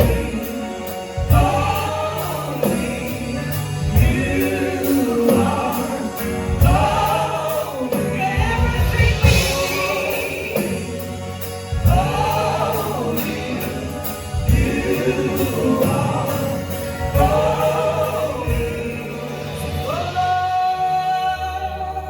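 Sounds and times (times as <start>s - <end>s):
low instrumental chords: 0.0s - 22.0s.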